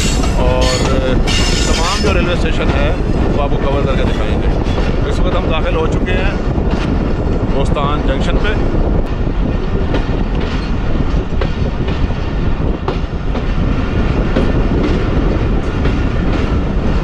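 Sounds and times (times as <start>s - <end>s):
train coach rumble: 0.0s - 17.0s.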